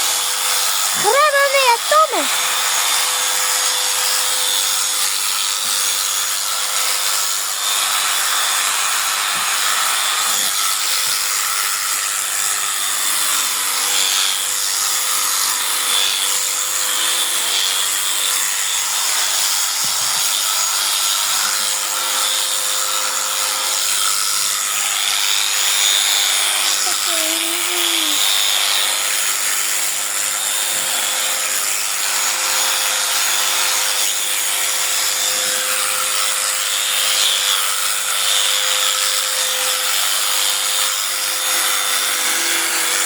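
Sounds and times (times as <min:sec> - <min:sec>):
power tool whirring: 0:02.3 - 0:43.0.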